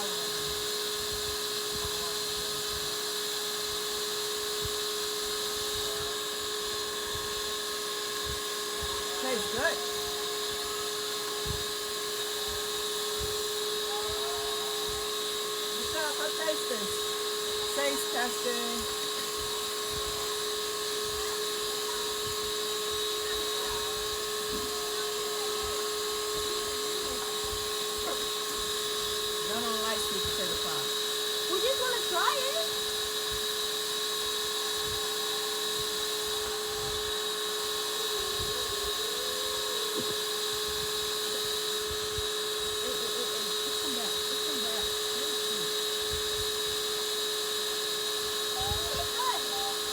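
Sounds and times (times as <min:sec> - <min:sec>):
small electric motor whirring: 0:00.0 - 0:49.9.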